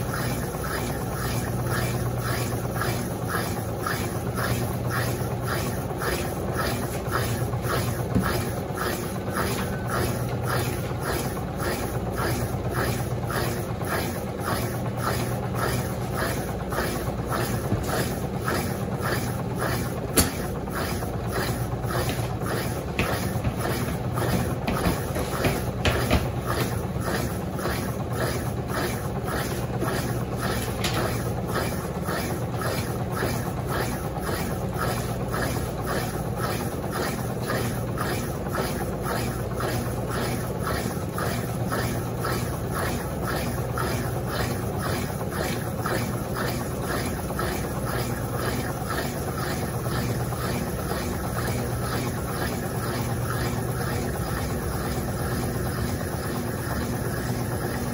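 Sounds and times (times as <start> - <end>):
washing machine spinning: 0.0 - 57.9.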